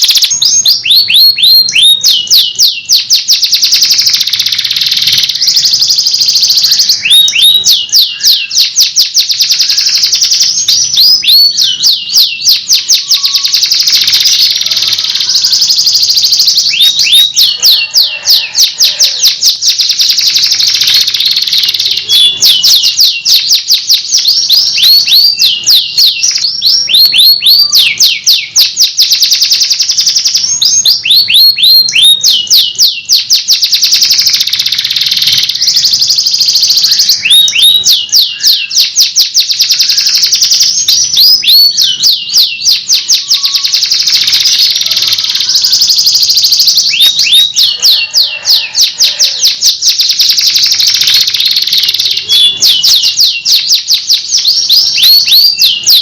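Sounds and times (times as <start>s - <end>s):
canary trilling song: 0.0s - 56.0s.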